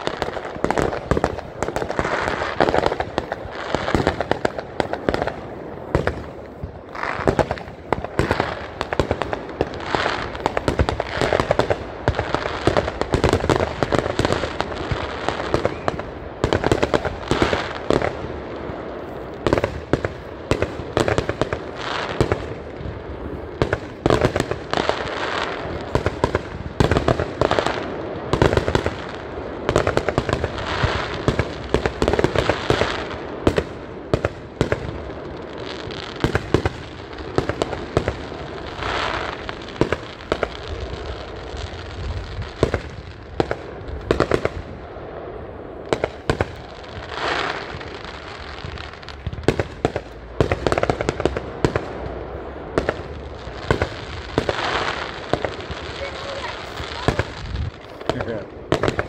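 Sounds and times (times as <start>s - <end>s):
fireworks bangs: 0.0s - 59.0s
fireworks crackle: 0.0s - 59.0s.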